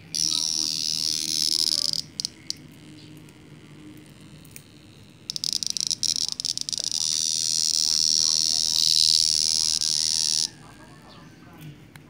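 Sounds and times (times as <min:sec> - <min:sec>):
cicada buzzing: 0:00.0 - 0:11.0.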